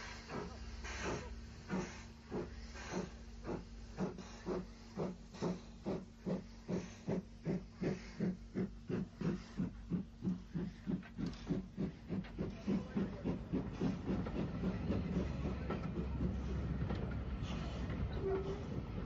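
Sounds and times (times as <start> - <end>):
steam locomotive chuffing: 0.0 - 19.0.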